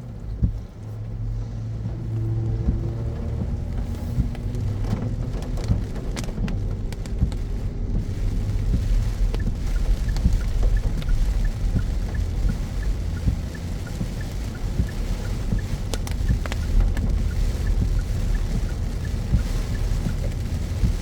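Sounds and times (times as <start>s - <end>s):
car engine and road rumble: 0.0s - 21.0s
raindrops ticking: 0.0s - 21.0s.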